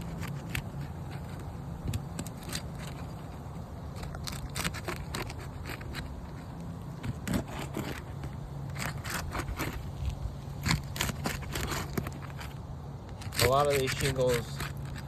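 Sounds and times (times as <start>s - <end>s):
pry bar cracking shingles: 0.0s - 15.0s
steady low hum: 0.0s - 15.0s.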